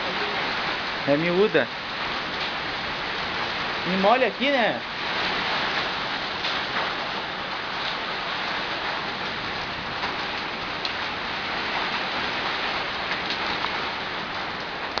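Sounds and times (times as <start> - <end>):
hailstones ticking: 0.0 - 15.0
rain and hail hiss: 0.0 - 15.0.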